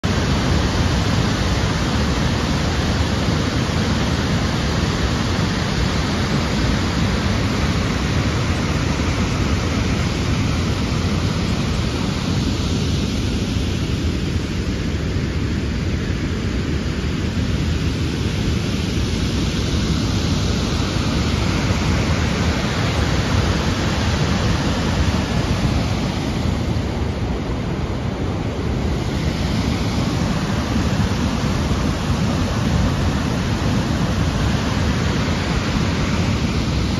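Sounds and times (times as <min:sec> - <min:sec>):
waterfall rushing: 0:00.0 - 0:14.6, 0:17.1 - 0:36.9.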